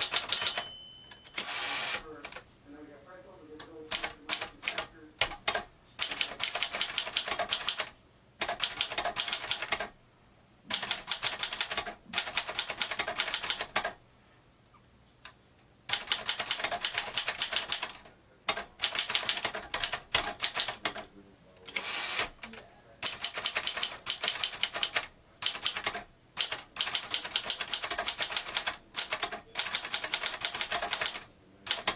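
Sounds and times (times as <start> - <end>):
manual typewriter typing: 0.0 - 2.4, 3.9 - 10.0, 10.7 - 14.0, 15.9 - 21.0, 21.7 - 31.9.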